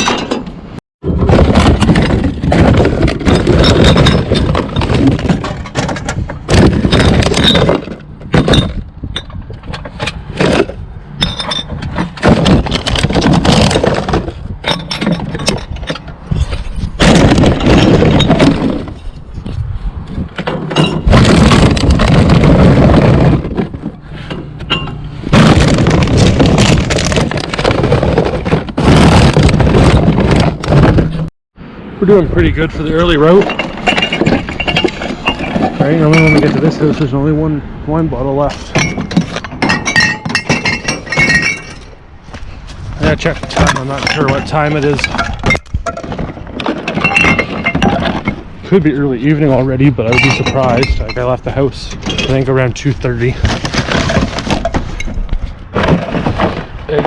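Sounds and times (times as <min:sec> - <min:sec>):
bottles and cans clattering: 0:00.0 - 0:19.0, 0:20.4 - 0:31.3, 0:33.4 - 0:37.0, 0:38.6 - 0:42.0, 0:43.1 - 0:48.4, 0:50.0 - 0:52.5, 0:53.3 - 0:57.0.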